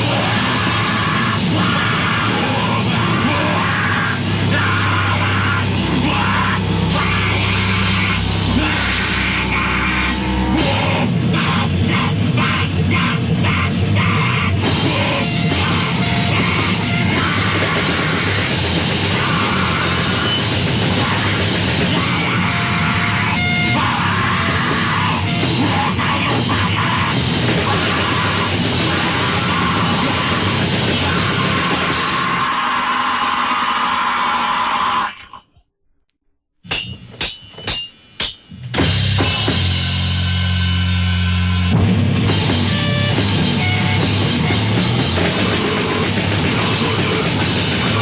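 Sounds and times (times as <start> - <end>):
hard evenly spaced drum hits: 0.0 - 32.4, 36.6 - 48.0
heavy metal band playing: 0.0 - 35.1, 38.6 - 48.0.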